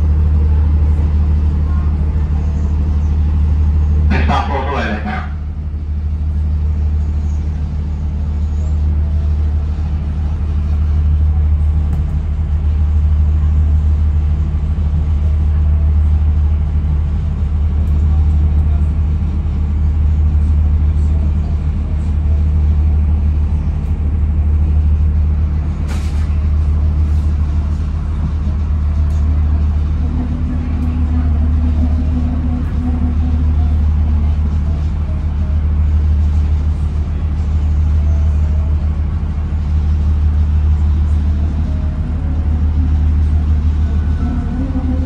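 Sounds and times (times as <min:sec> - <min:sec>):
train rumble inside carriage: 0:00.0 - 0:45.0.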